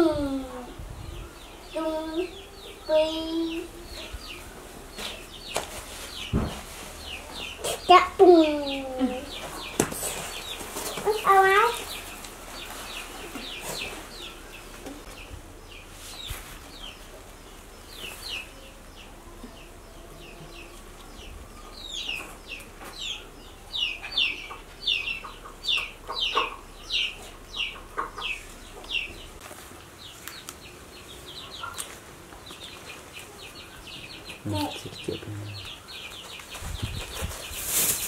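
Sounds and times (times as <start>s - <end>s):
bird peeping: 0.2s - 38.0s.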